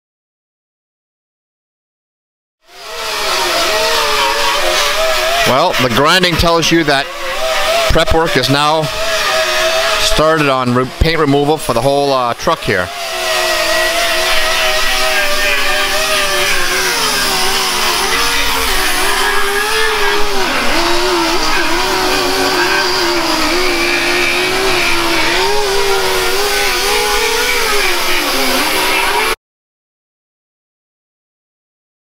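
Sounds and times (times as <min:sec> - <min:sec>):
air die grinders whining on metal: 0:02.7 - 0:29.4.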